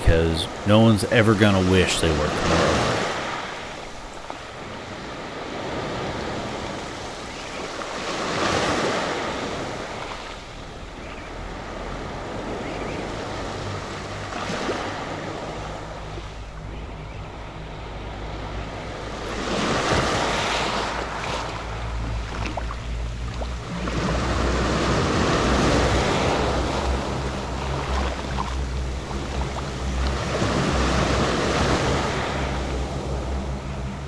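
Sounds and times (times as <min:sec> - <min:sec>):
small waves washing onto beach: 0:00.0 - 0:34.0.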